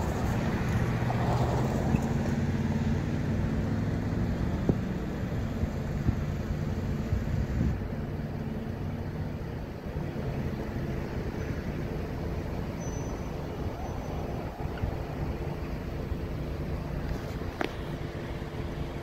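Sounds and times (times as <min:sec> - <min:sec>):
engine running at low revs: 0:00.0 - 0:19.0.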